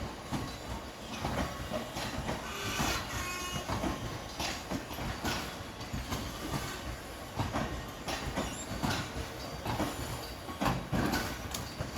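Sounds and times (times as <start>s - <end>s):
train wheels clacking on rail joints: 0.0s - 11.9s.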